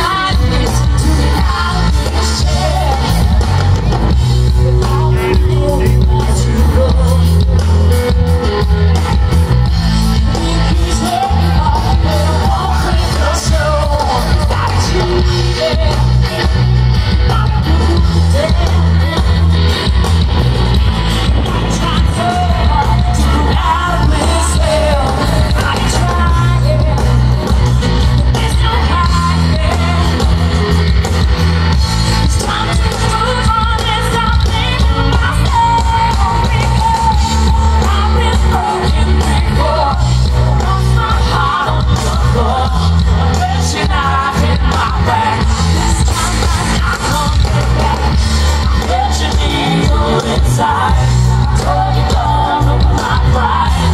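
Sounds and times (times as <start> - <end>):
woman singing lead vocal: 0.0 - 8.8, 9.7 - 31.4, 32.0 - 53.9
live rock band playing: 0.0 - 53.9.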